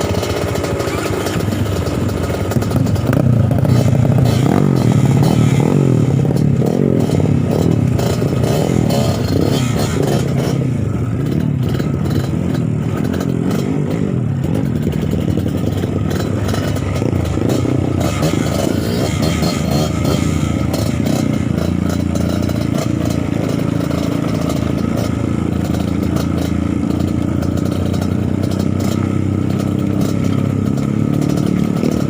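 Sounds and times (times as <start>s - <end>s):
motorcycle engine revving: 0.0s - 32.0s
rattling and scraping: 0.0s - 32.0s.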